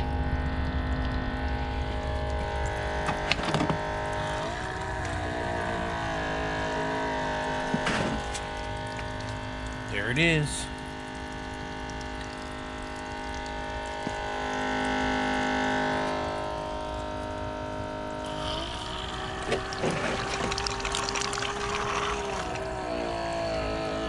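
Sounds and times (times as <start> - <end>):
electric water pump humming: 0.0 - 24.0
water splashing: 1.1 - 24.0.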